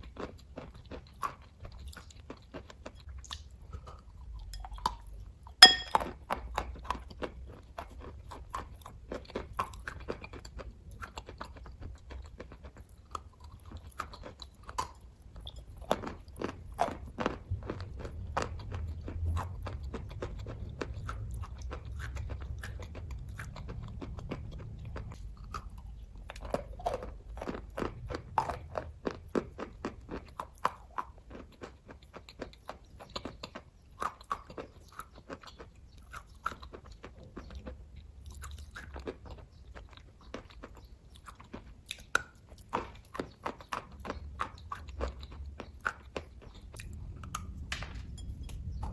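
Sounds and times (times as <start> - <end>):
chewing and biting sweets: 0.0 - 48.9.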